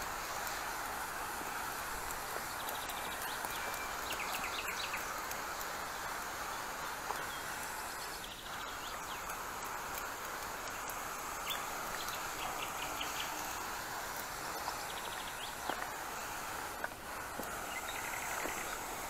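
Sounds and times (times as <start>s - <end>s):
small birds chirping: 0.0s - 19.0s
sprayer nozzle hissing: 0.0s - 19.0s.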